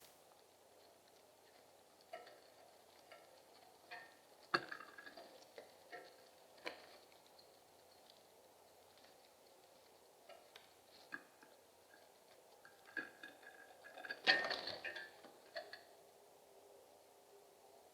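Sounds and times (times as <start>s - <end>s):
birds pecking on a hard surface: 0.0s - 16.0s.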